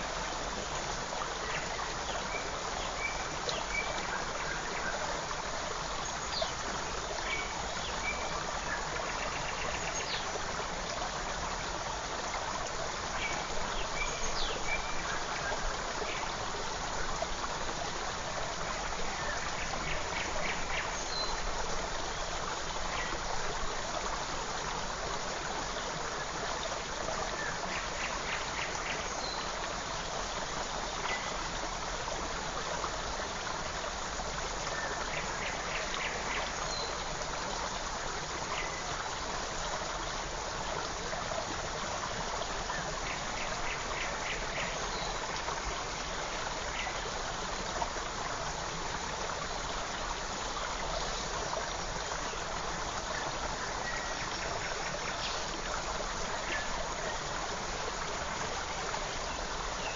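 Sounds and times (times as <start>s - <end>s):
forest creek flowing: 0.0s - 59.9s.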